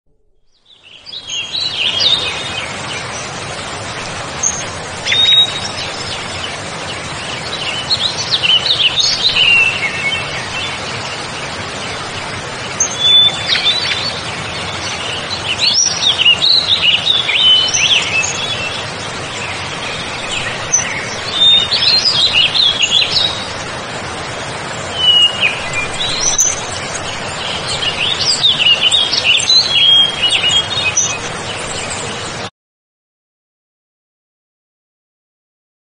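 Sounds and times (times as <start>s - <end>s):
songbirds chirping and trilling: 0.6s - 32.5s.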